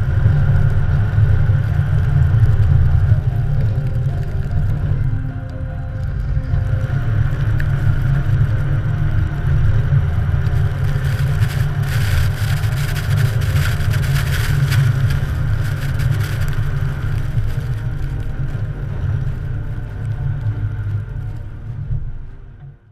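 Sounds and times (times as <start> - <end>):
truck engine rumbling: 0.0 - 22.9.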